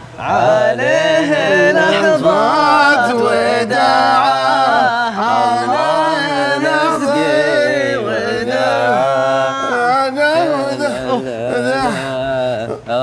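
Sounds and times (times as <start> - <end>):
person singing slow wavering notes: 0.3 - 13.0.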